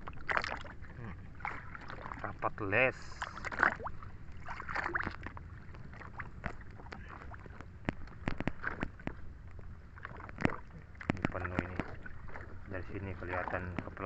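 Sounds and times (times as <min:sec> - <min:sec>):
water lapping against boat hull: 0:00.0 - 0:14.0.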